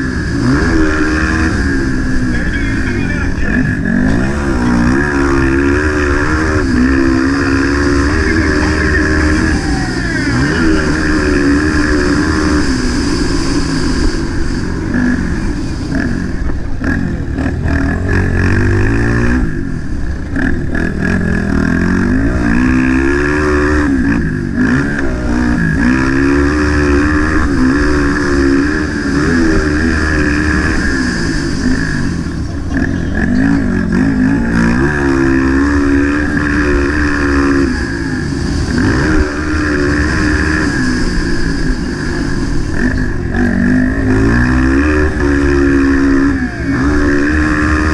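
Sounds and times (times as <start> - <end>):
motorbike engine revving: 0.0 - 47.9
steady low rushing noise: 0.0 - 47.9.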